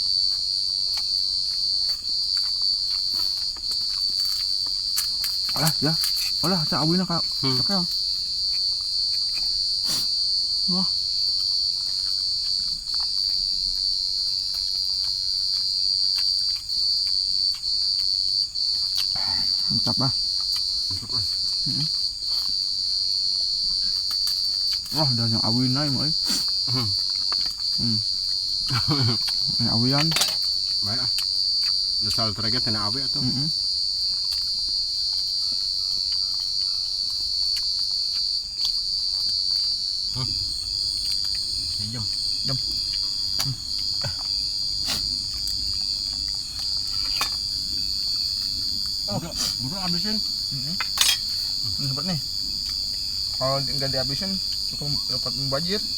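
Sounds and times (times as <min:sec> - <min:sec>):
crickets chirping: 0:00.0 - 0:55.9
insects trilling chorus: 0:00.0 - 0:55.9.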